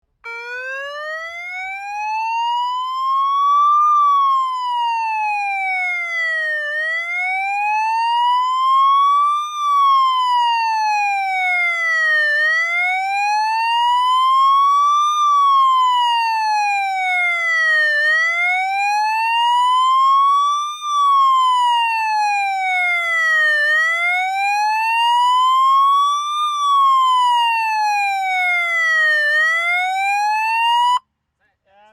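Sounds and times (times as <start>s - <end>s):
motorcycle siren wailing: 0.2s - 31.0s.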